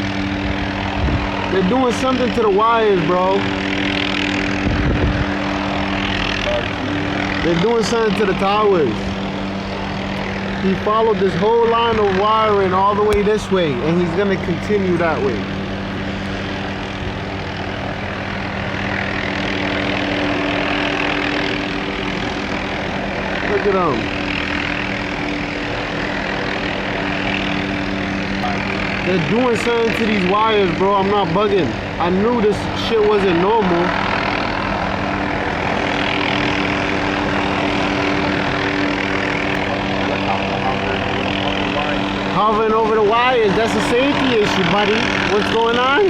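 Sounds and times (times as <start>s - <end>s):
helicopter hovering: 0.0s - 46.0s.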